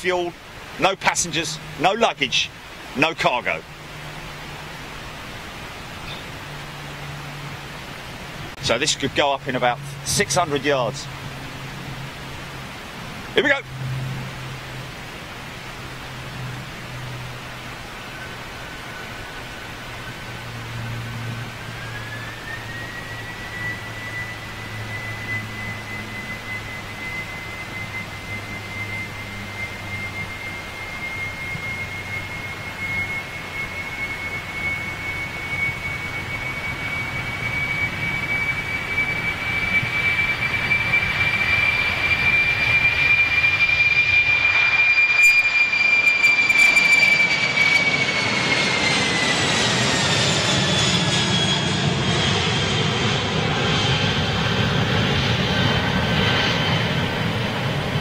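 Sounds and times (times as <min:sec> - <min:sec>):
high engine whine: 0:00.0 - 0:58.0
jet engines at takeoff power: 0:00.0 - 0:58.0.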